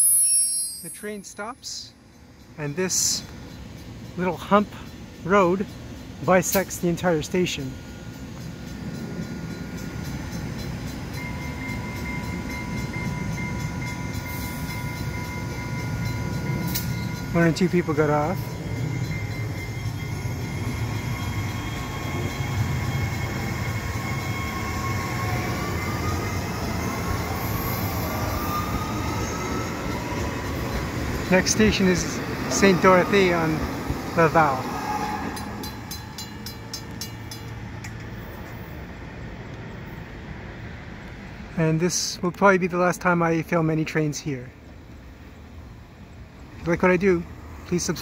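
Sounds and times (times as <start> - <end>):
level crossing warning bell ringing: 0.0 - 38.7
train rumbling on rails: 0.0 - 48.0.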